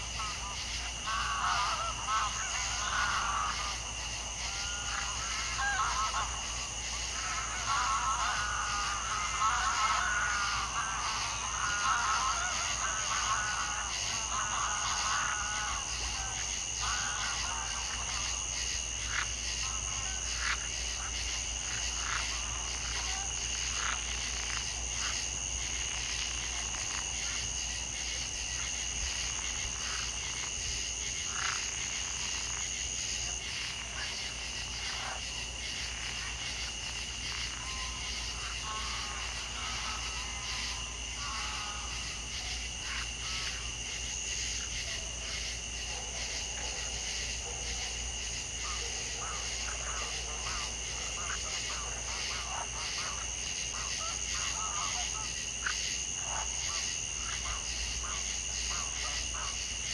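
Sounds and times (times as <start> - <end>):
frogs croaking: 0.0 - 59.9
high insect trill: 0.0 - 59.9.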